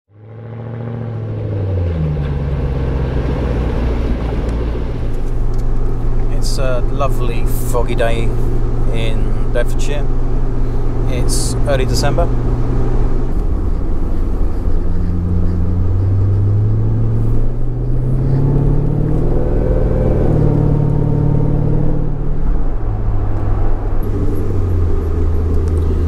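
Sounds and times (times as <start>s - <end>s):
car engine heard from cabin: 0.1s - 26.0s.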